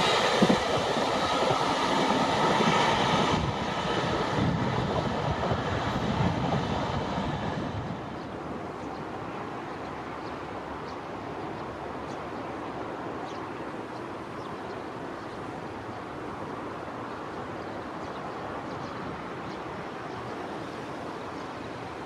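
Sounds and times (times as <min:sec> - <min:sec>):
train rumble and wheel clatter: 0:00.0 - 0:22.0.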